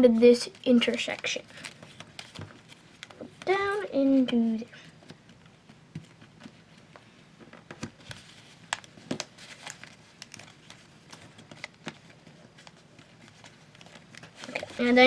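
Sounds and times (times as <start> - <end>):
paper being folded and creased: 0.0 - 6.9, 7.7 - 15.0.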